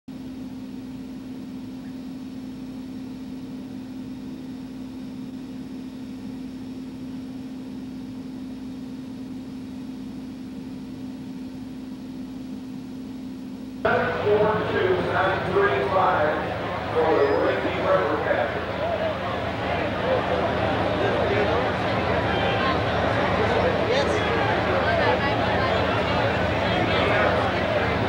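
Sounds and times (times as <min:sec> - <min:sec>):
low electrical hum: 0:00.1 - 0:28.0.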